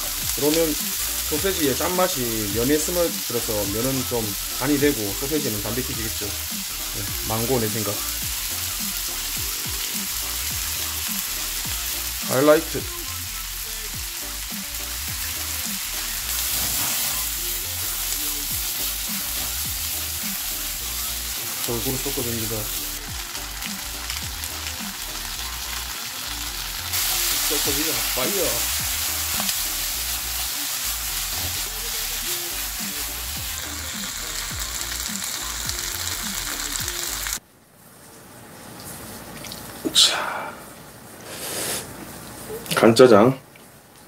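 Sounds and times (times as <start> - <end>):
food sizzling in a frying pan: 0.0 - 37.4
soft background music: 0.0 - 37.4.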